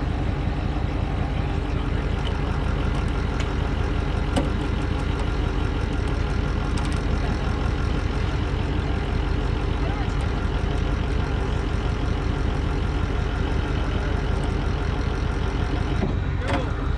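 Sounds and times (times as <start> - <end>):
engine rumbling: 0.0 - 16.9.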